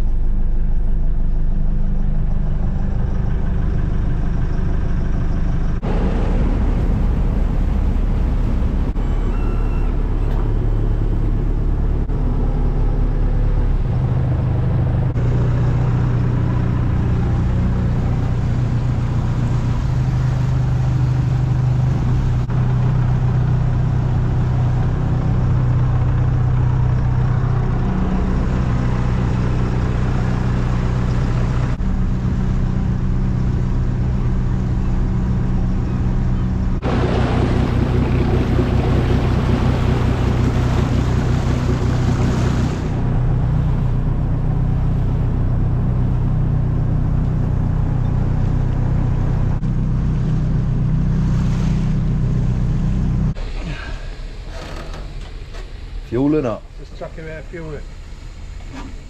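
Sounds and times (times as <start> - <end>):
boat diesel engine running: 0.0 - 59.0.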